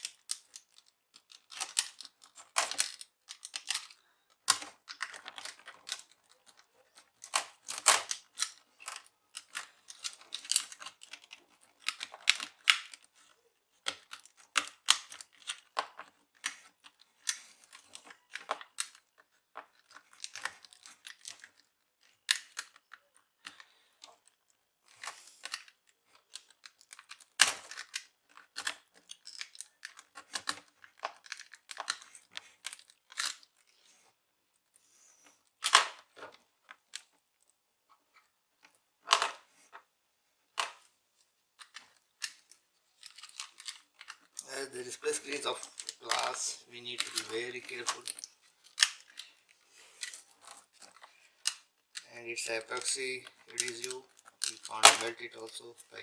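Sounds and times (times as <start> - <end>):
plastic clicking and cracking: 0.0 - 56.0.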